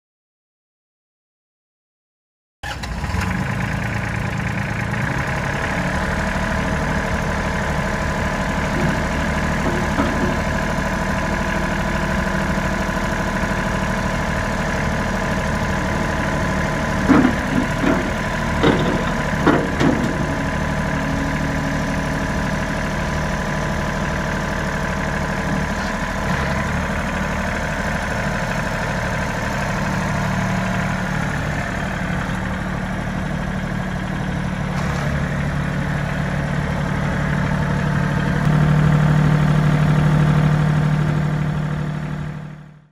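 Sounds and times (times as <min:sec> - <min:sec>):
tractor diesel engine running: 0:02.6 - 0:42.9.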